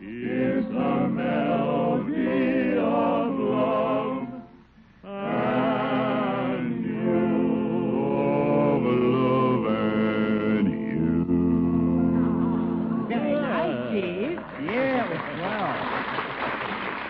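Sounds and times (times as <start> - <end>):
male barbershop quartet singing: 0.0 - 14.1.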